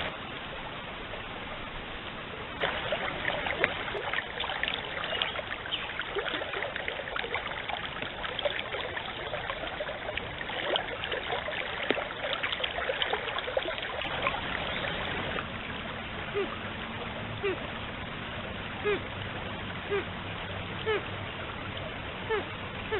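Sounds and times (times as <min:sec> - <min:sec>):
small water splashes: 0:00.0 - 0:22.9
stream running and trickling: 0:00.0 - 0:22.9.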